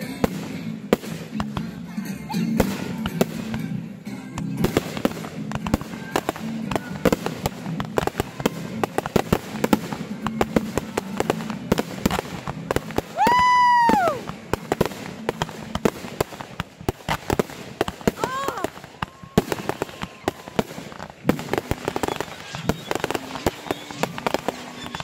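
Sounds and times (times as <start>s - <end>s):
background music: 0.0s - 25.0s
fireworks banging and crackling: 0.0s - 25.0s
firework whistling: 4.6s - 25.0s.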